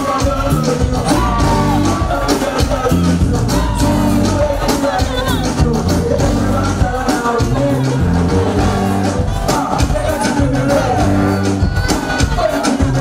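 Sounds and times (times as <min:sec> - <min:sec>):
man singing into a microphone: 0:00.0 - 0:13.0
music with deep bass and beat: 0:00.0 - 0:13.0.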